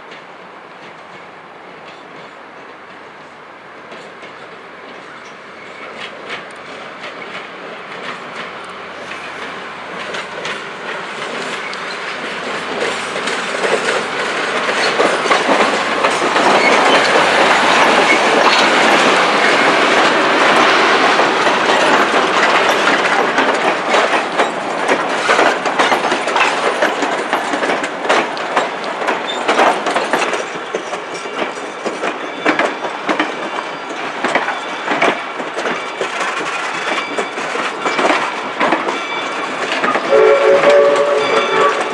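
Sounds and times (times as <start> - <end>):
train passing: 0.0 - 41.9
wheels clicking over rail joints: 3.8 - 41.9.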